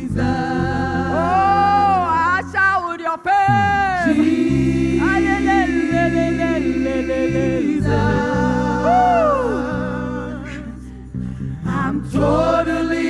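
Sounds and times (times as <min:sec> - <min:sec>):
voices singing worship song: 0:00.0 - 0:13.0.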